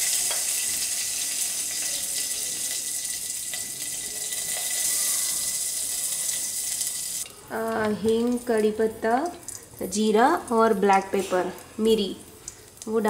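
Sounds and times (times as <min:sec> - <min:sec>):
ghee sizzling in a pot: 0:00.0 - 0:13.0.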